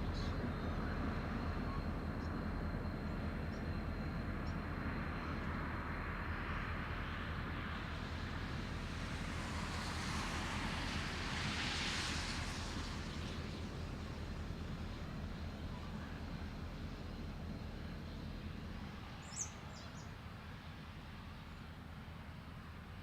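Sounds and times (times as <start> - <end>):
locomotive engine rumble: 0.0 - 23.0.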